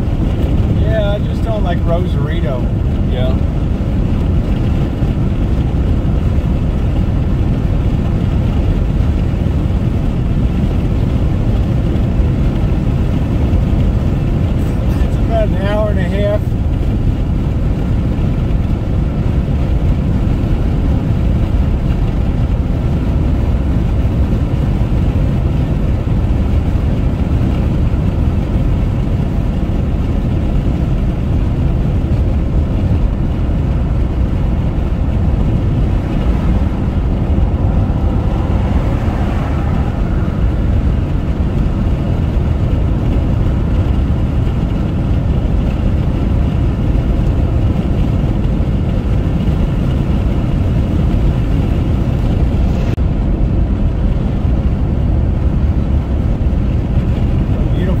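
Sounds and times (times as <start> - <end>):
car driving at highway speed: 0.0 - 58.0.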